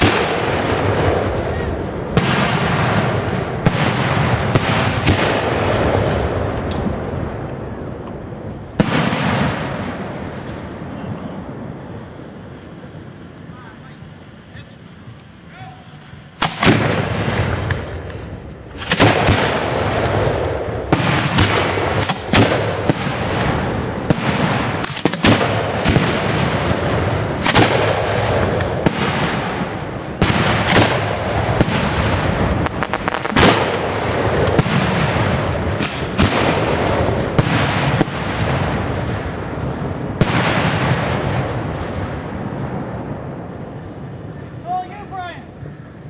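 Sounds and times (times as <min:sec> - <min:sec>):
fireworks booming: 0:00.0 - 0:46.0
rumbling fireworks wash: 0:00.0 - 0:46.0.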